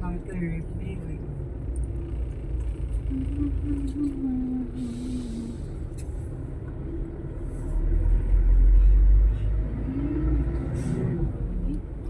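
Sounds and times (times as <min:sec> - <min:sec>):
deep vehicle rumble: 0:00.0 - 0:12.0.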